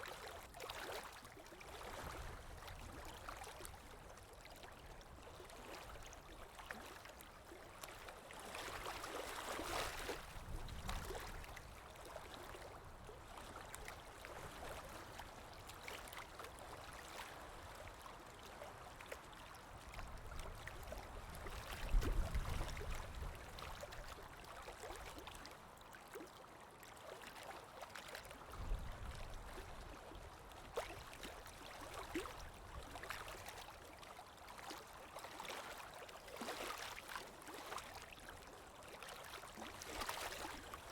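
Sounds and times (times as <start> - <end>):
water drips and splashes: 0.0 - 40.9.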